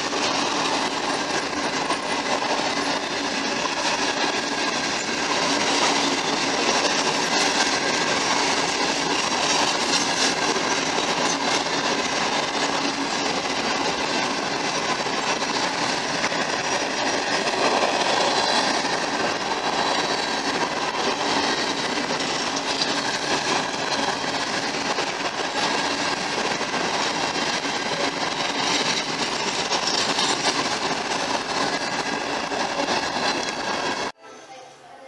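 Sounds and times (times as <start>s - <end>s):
steel wheels running on rails: 0.0s - 34.2s.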